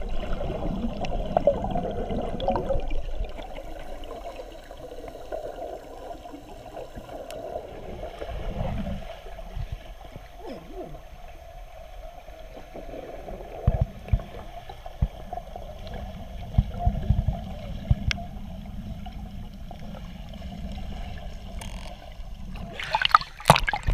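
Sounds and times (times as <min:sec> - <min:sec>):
underwater water wash: 0:00.0 - 0:23.9
water splashing: 0:00.0 - 0:23.9.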